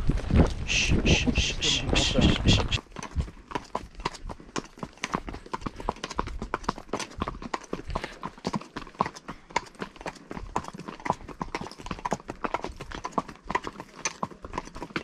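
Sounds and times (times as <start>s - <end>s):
horse hooves clopping on dirt: 0.0s - 15.0s.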